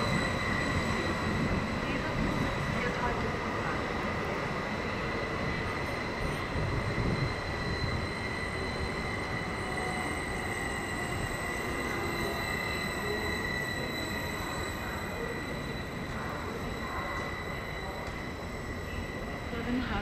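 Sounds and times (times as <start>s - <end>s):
high squeal of train wheels: 0.0s - 20.0s
train wheels rumbling on rails: 0.0s - 20.0s.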